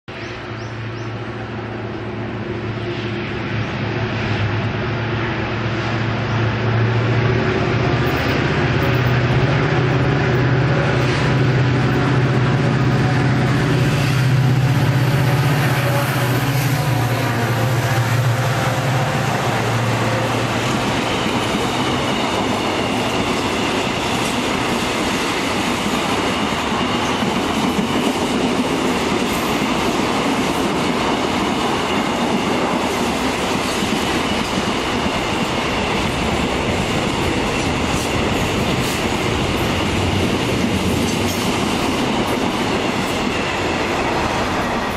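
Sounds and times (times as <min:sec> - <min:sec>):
diesel locomotive engine drone: 0:00.1 - 0:44.9
train wheels clattering on rails: 0:07.6 - 0:44.9.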